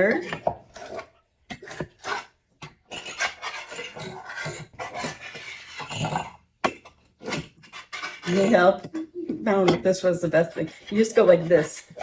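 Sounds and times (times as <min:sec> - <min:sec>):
whisk scraping a dish: 0:00.0 - 0:12.0.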